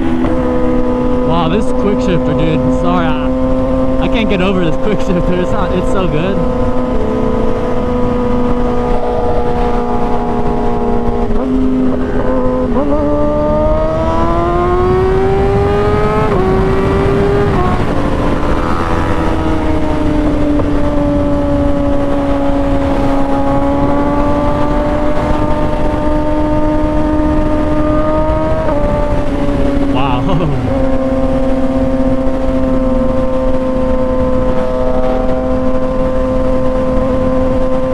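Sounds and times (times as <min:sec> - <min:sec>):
motorcycle engine accelerating: 0:00.0 - 0:37.9
wind rush over microphone: 0:00.0 - 0:37.9.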